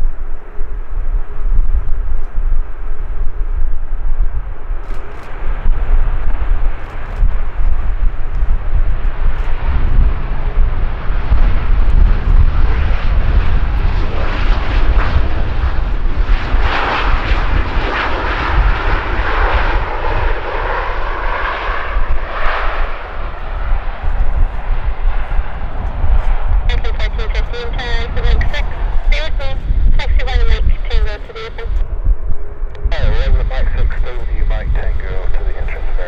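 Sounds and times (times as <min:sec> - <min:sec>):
deep rumble: 0:00.0 - 0:36.0
jet engines on landing roll: 0:00.0 - 0:36.0.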